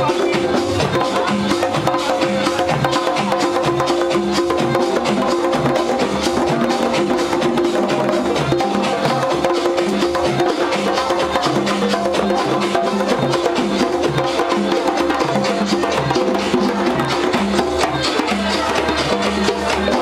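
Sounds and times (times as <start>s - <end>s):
fast hand percussion: 0.0s - 20.0s.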